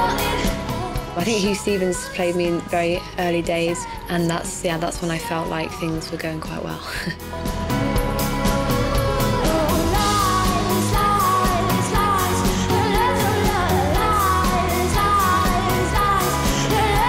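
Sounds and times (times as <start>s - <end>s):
pop-rock song with singing: 0.0s - 17.0s.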